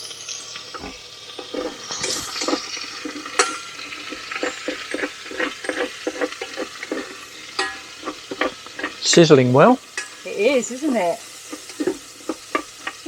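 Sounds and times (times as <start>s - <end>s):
food sizzling in oil: 0.0s - 13.0s
utensil scraping and knocking pot: 0.5s - 13.0s.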